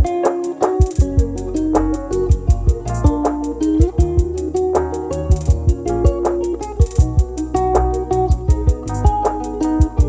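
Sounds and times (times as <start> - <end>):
plucked-string music over a beat: 0.0 - 10.0.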